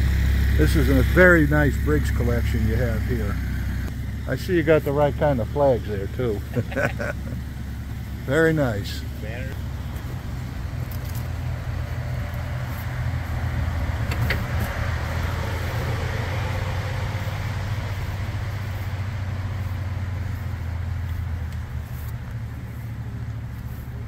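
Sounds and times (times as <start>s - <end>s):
engines rumbling: 0.0s - 24.0s.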